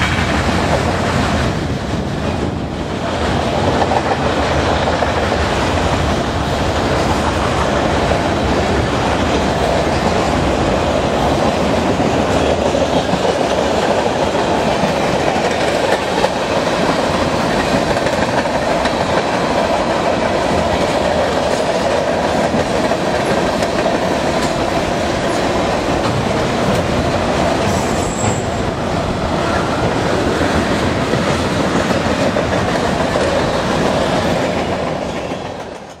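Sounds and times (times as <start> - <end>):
freight train passing: 0.0 - 36.0
steel wheels clattering on rails: 0.0 - 36.0.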